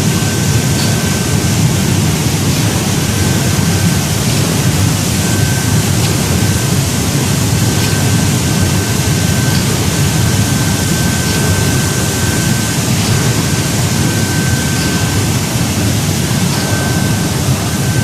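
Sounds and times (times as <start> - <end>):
churning bubbling water: 0.0 - 18.0
faint thin whine: 0.0 - 18.0
low machine hum: 0.0 - 18.0.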